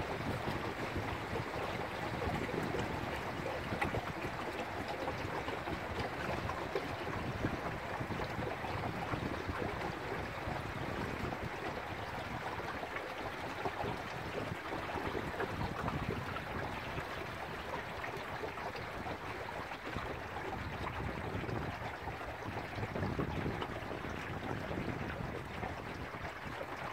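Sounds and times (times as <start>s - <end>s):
water rushing along boat hull: 0.0s - 26.9s
wind: 0.0s - 26.9s.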